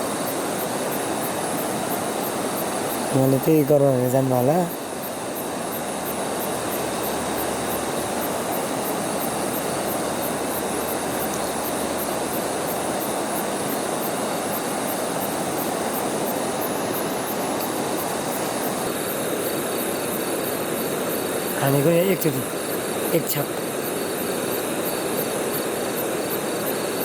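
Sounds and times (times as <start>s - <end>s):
rushing river water: 0.0s - 27.0s.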